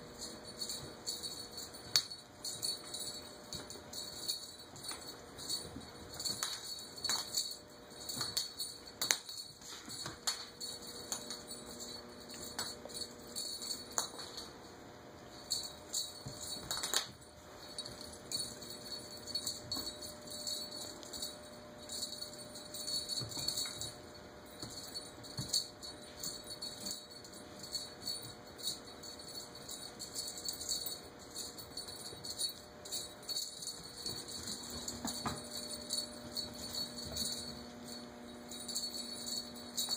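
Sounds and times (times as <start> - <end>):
cat toy jingling on tile floor: 0.2 - 14.6, 15.3 - 39.9.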